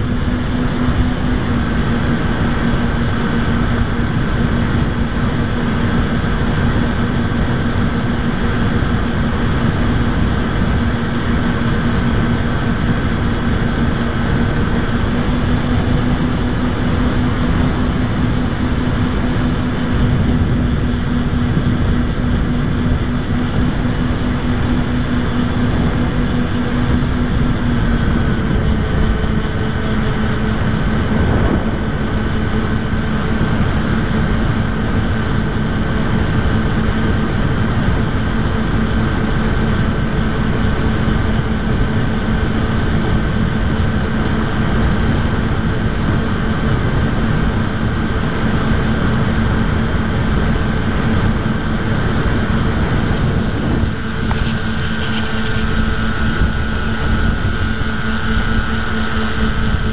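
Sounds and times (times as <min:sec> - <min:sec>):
wind rushing over camera: 0:00.0 - 0:40.0, 0:45.9 - 0:59.9
propeller motor whine: 0:00.0 - 0:59.9.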